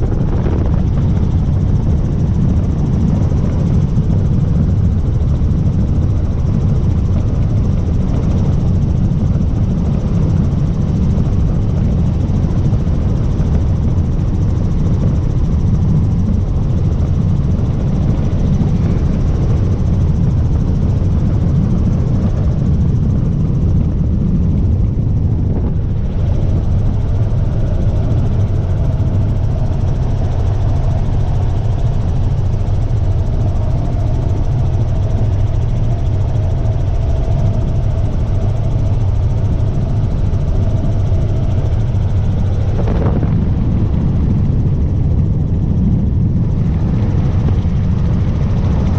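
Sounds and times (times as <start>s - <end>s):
helicopter engine and rotor drone: 0.0s - 48.9s
higher steady hum: 0.0s - 48.9s.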